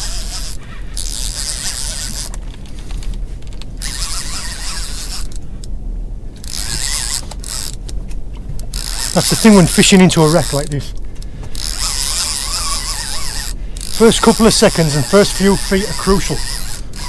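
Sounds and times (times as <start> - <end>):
fishing reel ratcheting and whirring: 0.0 - 3.0, 3.8 - 5.4, 6.4 - 7.9, 8.6 - 10.9, 11.5 - 17.0.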